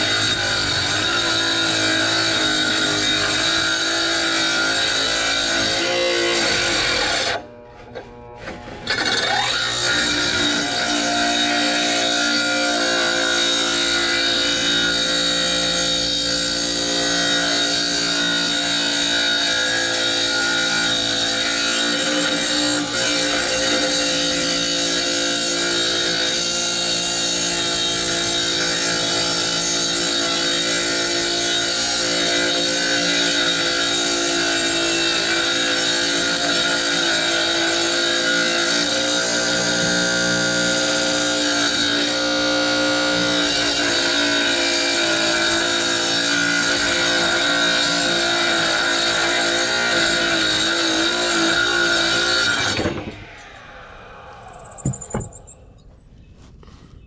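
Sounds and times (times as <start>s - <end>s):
tile saw cutting wood: 0.0s - 55.6s.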